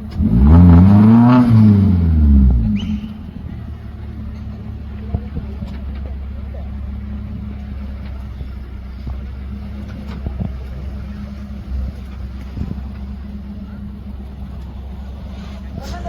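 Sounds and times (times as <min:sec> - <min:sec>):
vehicle engine running at low revs: 0:00.0 - 0:16.0.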